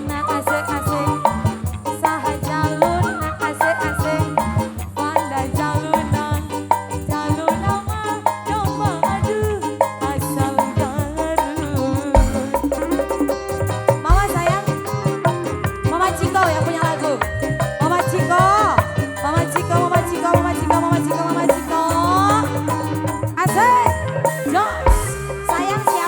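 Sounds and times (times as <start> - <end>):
drum rhythm: 0.0 - 26.0
wavering lead melody: 0.0 - 26.0.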